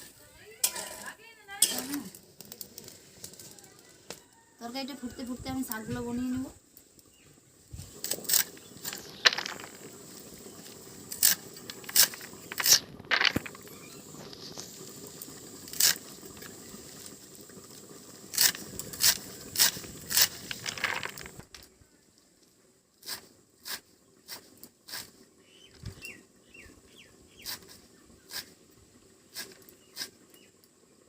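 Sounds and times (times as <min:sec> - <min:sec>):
low steady hiss: 0:00.0 - 0:31.0.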